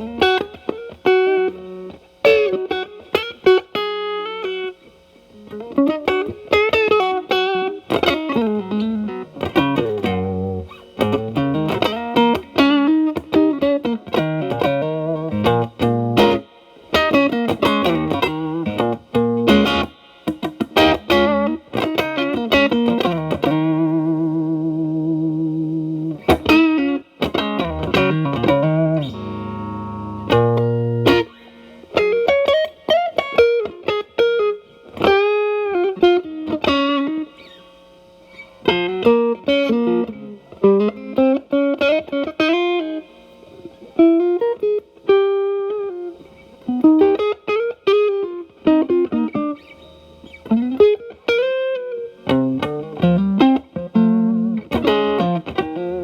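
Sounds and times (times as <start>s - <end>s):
distorted electric guitar lead: 5.4s - 37.7s, 38.3s - 56.0s.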